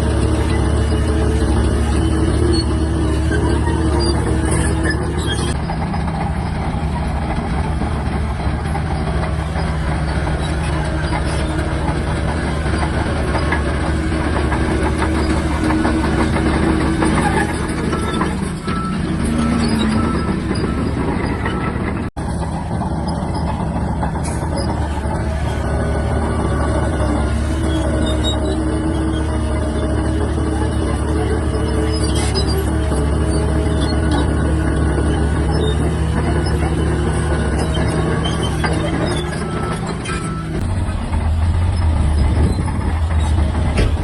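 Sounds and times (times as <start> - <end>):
diesel engine under load: 0.0 - 44.0
steel tracks clanking: 0.0 - 44.0.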